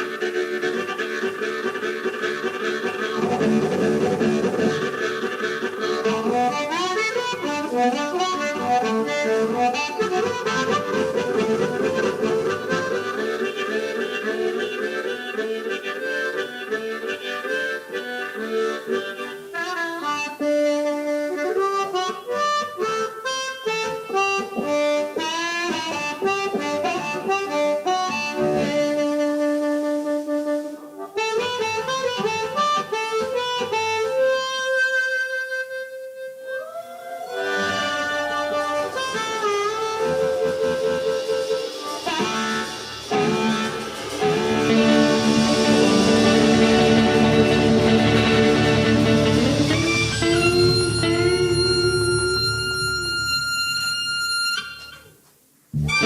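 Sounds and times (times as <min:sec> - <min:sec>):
blues band playing: 0:00.0 - 0:55.1, 0:55.8 - 0:56.0
harmonica lead: 0:00.0 - 0:56.0.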